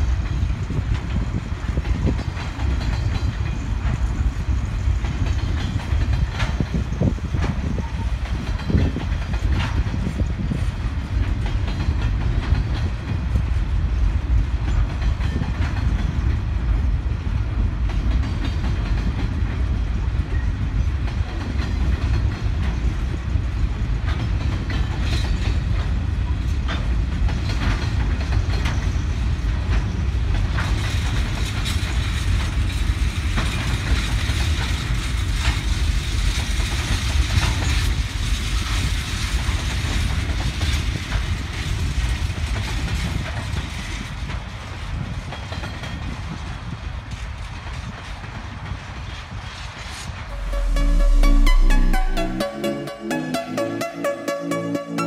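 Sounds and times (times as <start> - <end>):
train wheels rumbling on rails: 0.0 - 51.5.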